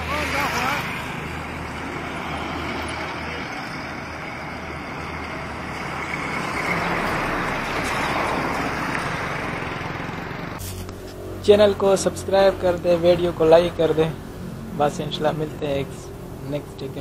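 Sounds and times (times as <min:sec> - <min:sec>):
tyres on road: 0:00.0 - 0:17.0
vehicle engine: 0:00.0 - 0:17.0.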